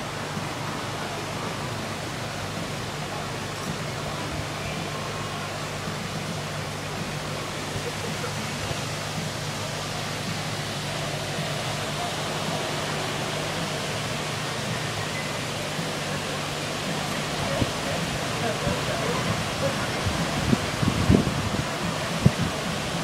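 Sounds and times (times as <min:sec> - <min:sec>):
boat engine idling hum: 0:00.0 - 0:23.0
water rushing through lock gates: 0:00.0 - 0:23.0.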